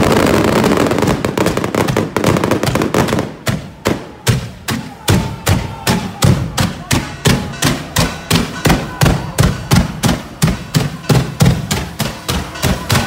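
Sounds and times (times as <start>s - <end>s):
firecrackers banging: 0.0s - 13.0s.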